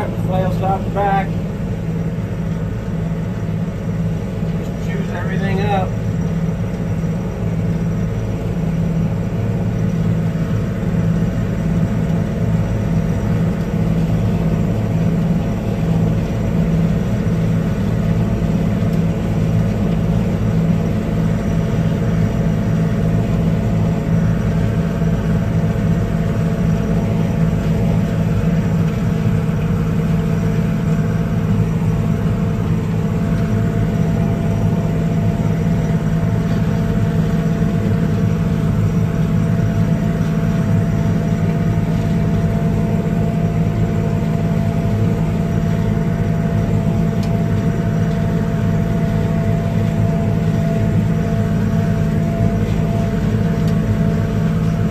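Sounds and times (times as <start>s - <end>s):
tractor diesel engine and harvester: 0.0s - 54.9s.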